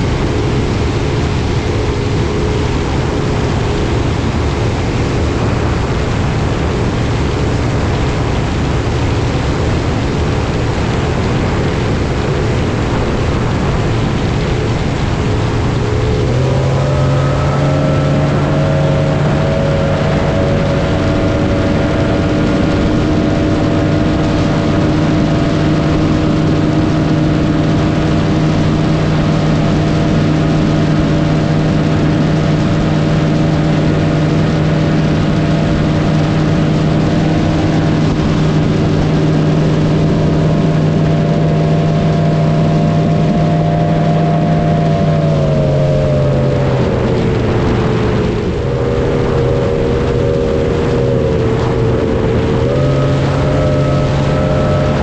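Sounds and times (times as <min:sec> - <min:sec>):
engine running at high speed: 0:00.0 - 0:55.0.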